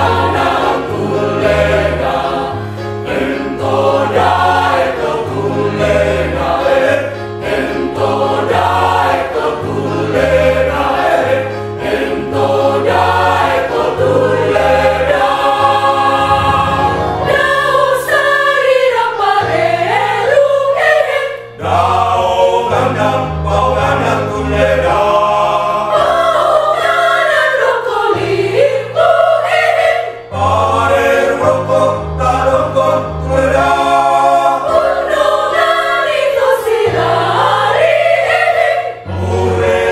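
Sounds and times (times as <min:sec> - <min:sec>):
mixed choir singing in parts: 0:00.0 - 0:39.9.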